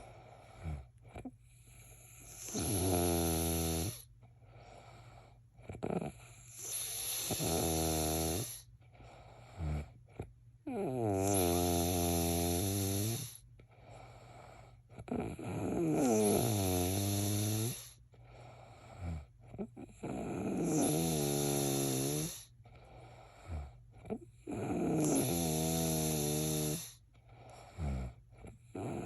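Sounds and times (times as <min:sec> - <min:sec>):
man snoring: 0:00.0 - 0:13.4, 0:14.0 - 0:29.0.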